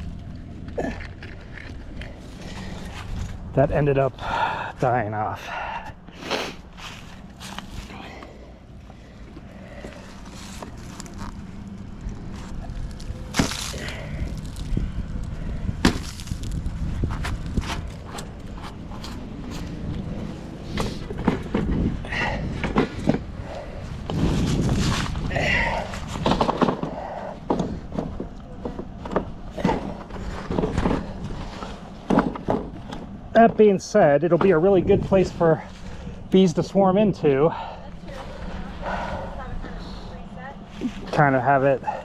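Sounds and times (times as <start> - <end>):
low steady rumble: 0.0 - 42.0.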